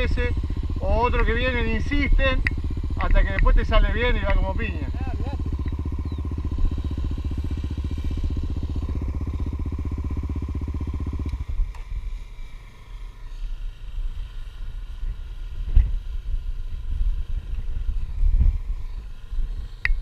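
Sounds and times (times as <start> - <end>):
low uneven rumble: 0.0 - 20.0
motorcycle engine idling: 0.0 - 20.0.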